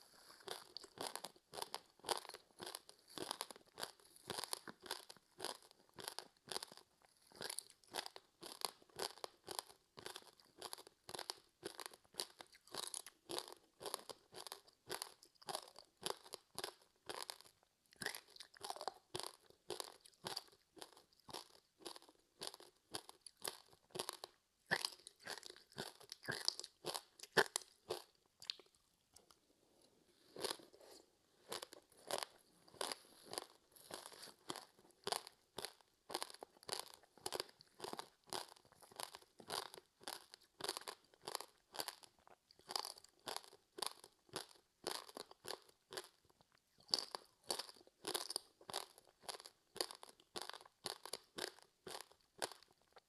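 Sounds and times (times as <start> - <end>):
crisp snack chewing crunches: 0.0 - 53.0.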